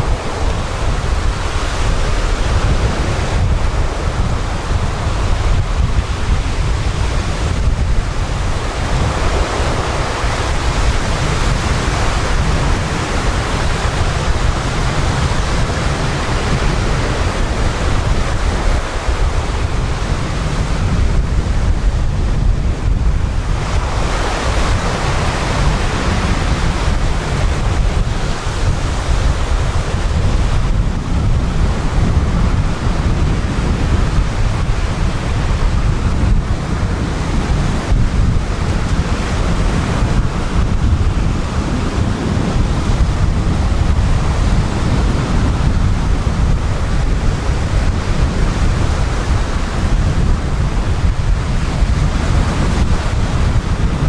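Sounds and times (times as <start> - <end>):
surf breaking on pebbly beach: 0.0 - 54.0
wind on microphone: 0.0 - 54.0.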